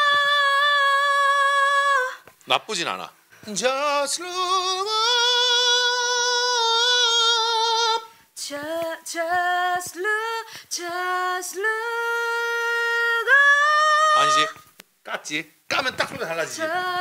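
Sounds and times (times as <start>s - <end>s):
woman singing with vibrato: 0.0s - 2.3s, 3.6s - 14.7s, 16.5s - 17.0s.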